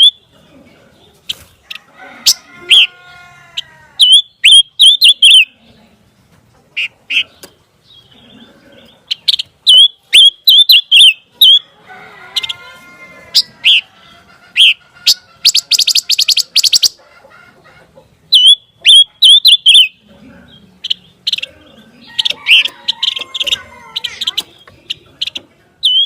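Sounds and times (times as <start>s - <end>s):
songbird chirping and trilling: 0.0s - 26.0s.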